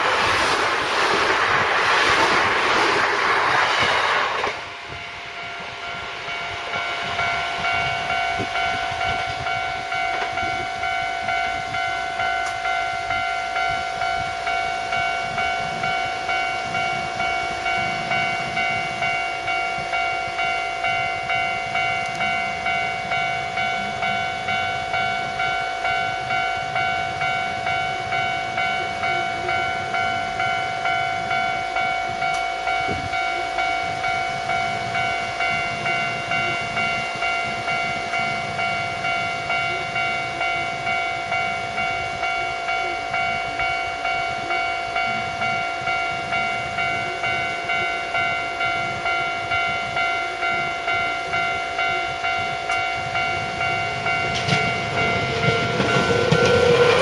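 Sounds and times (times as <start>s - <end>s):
level crossing warning bell: 0.0s - 57.0s
train wheels rolling: 0.0s - 57.0s.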